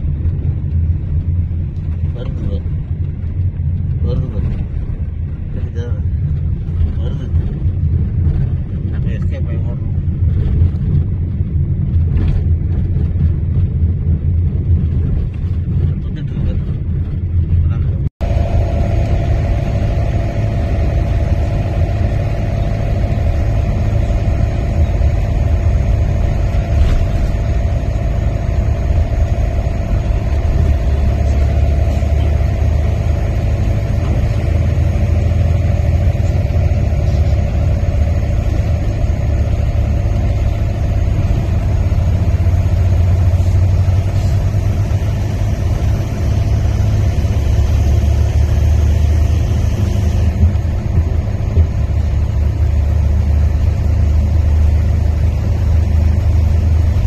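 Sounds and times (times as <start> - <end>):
car engine rumble: 0.0 - 57.0
road noise hum: 0.0 - 57.0.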